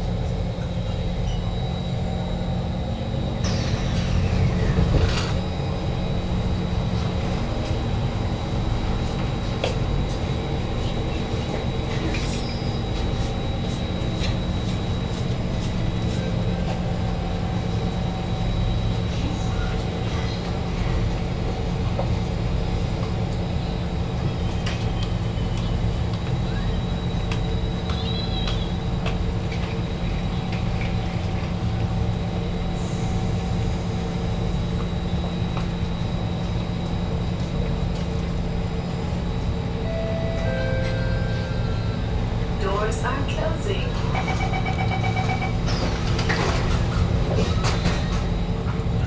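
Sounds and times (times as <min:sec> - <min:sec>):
train car equipment hum: 0:00.0 - 0:49.0.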